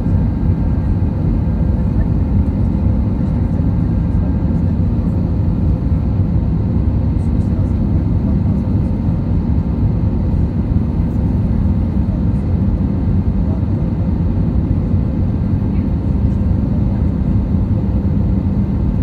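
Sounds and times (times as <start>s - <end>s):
airliner cabin engine noise: 0.0s - 19.0s.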